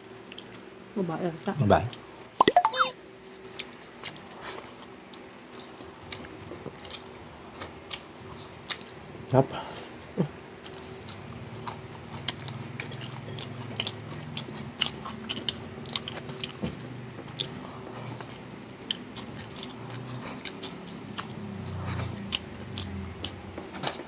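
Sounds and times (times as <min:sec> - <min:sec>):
crunching and chewing fried food: 0:00.0 - 0:02.3, 0:03.1 - 0:24.0.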